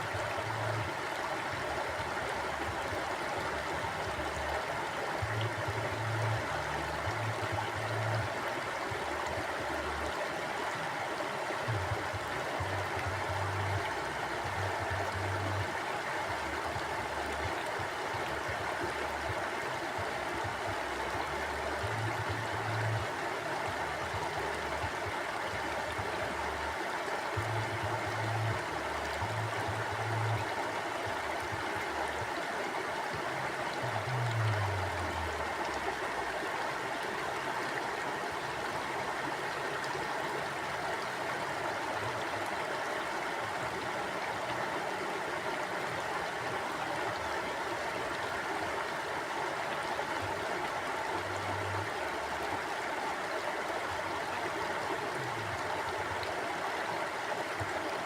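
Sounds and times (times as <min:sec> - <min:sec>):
mountain stream flowing: 0:00.0 - 0:58.0.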